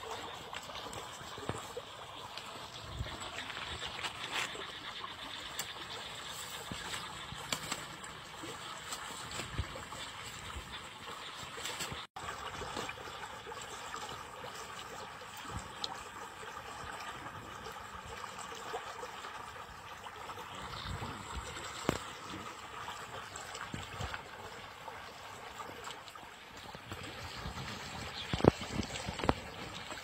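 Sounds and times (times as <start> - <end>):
water rushing and churning: 0.0 - 30.0.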